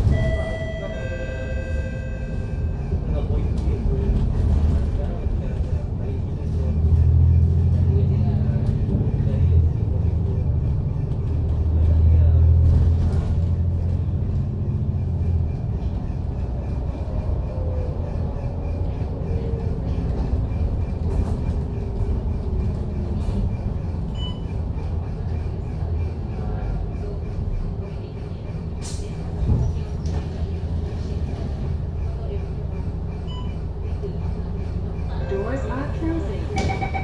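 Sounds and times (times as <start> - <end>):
bus engine rumble: 0.0 - 37.0
road noise: 0.0 - 37.0.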